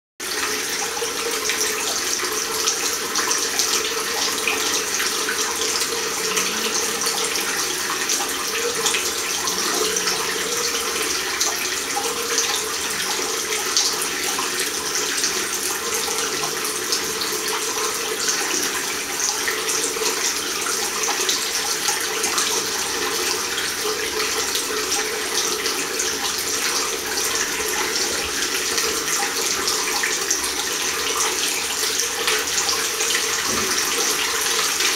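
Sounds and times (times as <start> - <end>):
tap water running into basin: 0.2 - 34.9.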